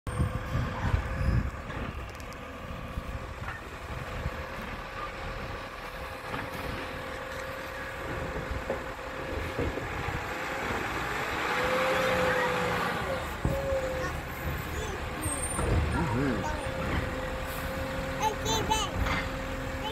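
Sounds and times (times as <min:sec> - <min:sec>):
garbage truck engine running: 0:00.1 - 0:19.9.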